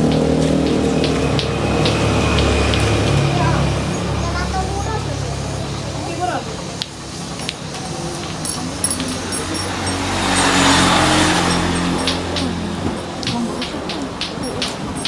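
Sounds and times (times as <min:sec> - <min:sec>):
vehicle passing close by: 0:00.0 - 0:06.0, 0:07.0 - 0:15.0.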